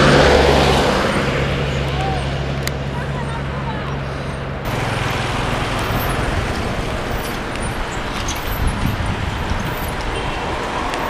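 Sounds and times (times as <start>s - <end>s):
road vehicle noise: 0.0s - 11.0s.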